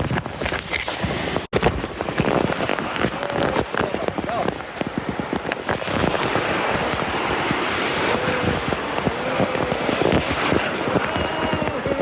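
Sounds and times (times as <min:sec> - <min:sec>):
surf washing on sand: 0:00.0 - 0:12.0
wind buffeting microphone: 0:00.0 - 0:12.0.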